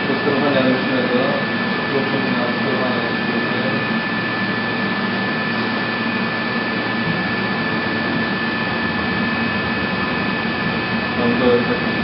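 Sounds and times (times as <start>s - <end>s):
milling machine running: 0.0s - 12.0s
thin high whine: 0.0s - 12.0s.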